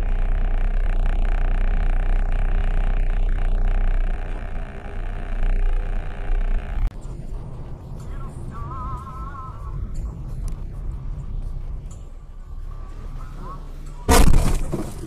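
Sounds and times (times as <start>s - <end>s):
moving car rumble: 0.0s - 15.0s
road and wind noise: 0.0s - 15.0s.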